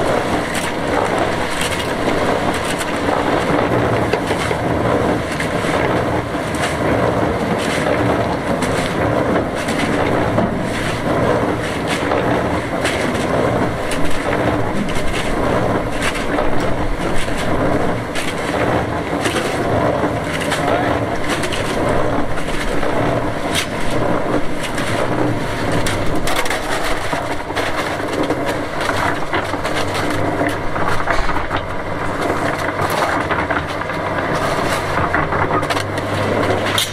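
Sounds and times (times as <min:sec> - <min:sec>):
cement mixer motor hum: 0:00.0 - 0:36.9
stones tumbling in a drum: 0:00.0 - 0:36.9.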